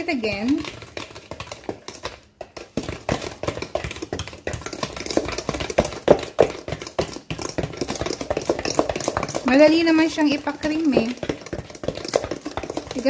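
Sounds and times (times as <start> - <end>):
whisk scraping a steel bowl: 0.0 - 13.0.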